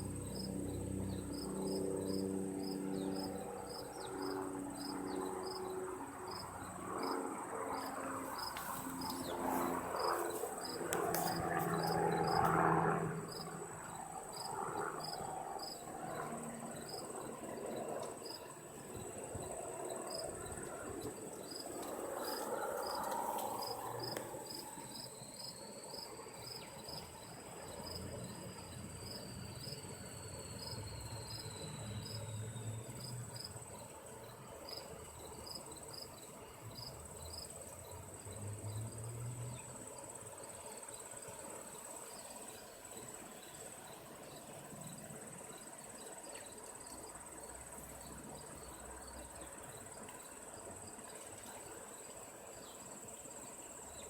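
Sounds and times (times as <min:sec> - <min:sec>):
insect chirping: 0:00.0 - 0:54.0
insects buzzing: 0:00.0 - 0:54.0.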